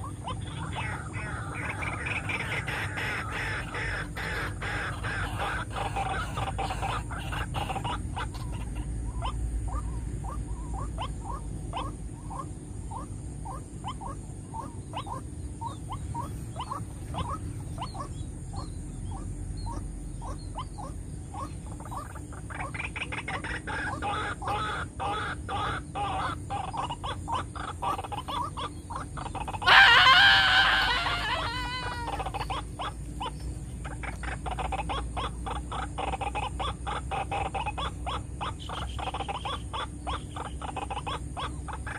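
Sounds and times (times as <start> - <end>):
bird harsh calling and flapping: 0.0 - 41.9
waterhens calling: 0.0 - 41.9.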